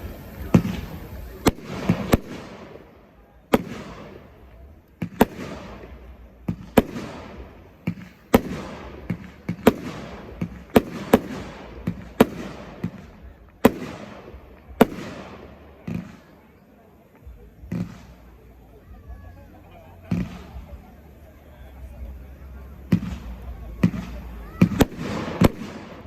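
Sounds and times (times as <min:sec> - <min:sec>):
fireworks bangs: 0:00.0 - 0:26.0
hiss after firework bursts: 0:00.0 - 0:26.0.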